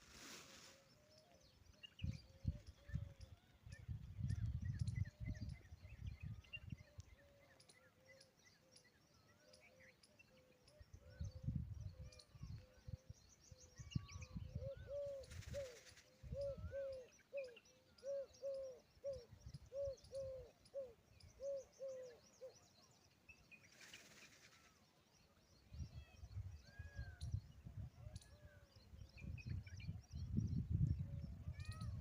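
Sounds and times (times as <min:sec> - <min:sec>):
small birds chirping: 0:00.1 - 0:32.0.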